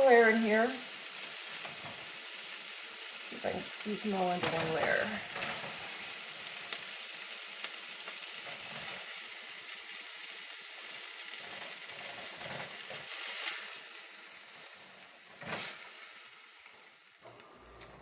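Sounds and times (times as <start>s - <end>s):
chicken sizzling in a pan: 0.0s - 18.0s.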